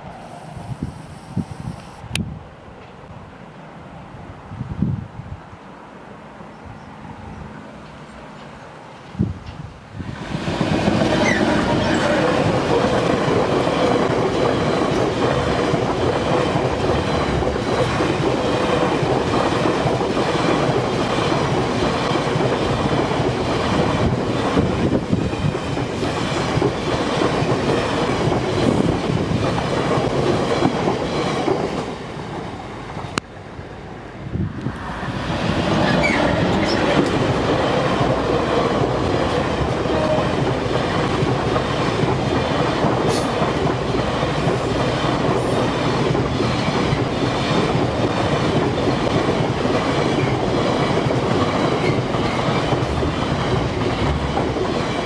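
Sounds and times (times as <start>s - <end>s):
diesel locomotive passing: 0.0s - 55.0s.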